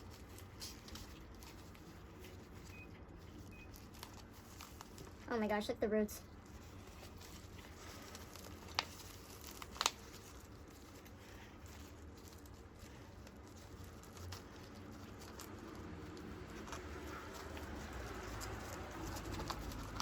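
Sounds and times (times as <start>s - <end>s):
soil and roots rustling: 0.0s - 20.0s.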